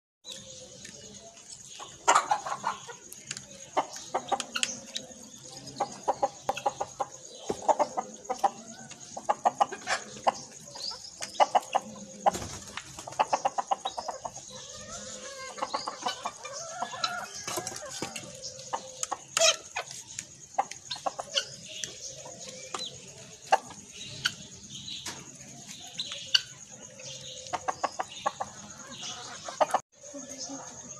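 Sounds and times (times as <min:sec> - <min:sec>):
chickens clucking: 0:00.3 - 0:30.9.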